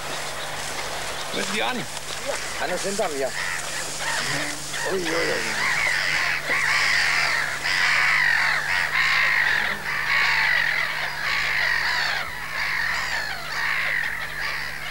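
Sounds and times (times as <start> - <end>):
chorus of croaking animal calls: 0.0 - 14.9.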